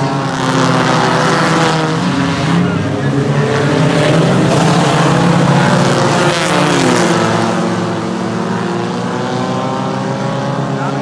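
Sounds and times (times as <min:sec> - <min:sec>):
race cars passing at speed: 0:00.0 - 0:11.0.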